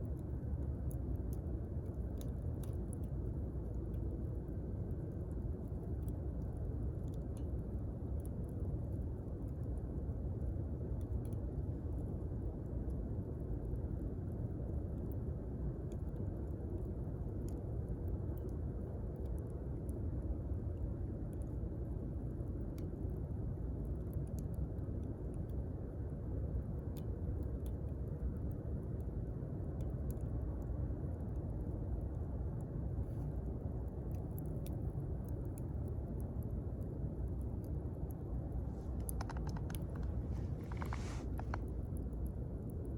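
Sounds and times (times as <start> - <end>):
campfire rumble: 0.0 - 42.9
fire crackles and pops: 0.0 - 42.9.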